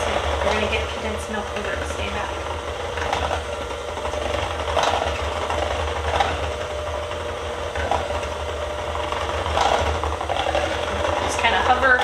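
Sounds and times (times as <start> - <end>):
electric hand mixer whisking: 0.0 - 12.0.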